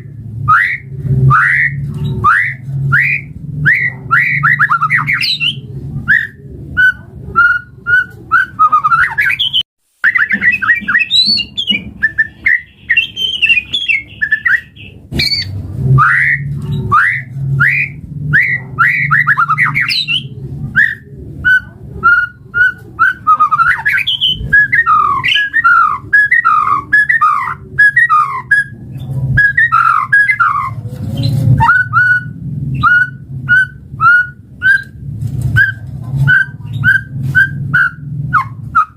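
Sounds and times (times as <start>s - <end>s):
steady low hum: 0.0s - 9.0s, 11.8s - 38.9s
bird singing whistled song: 0.5s - 28.8s, 29.4s - 30.8s, 31.6s - 35.0s, 35.6s - 38.9s.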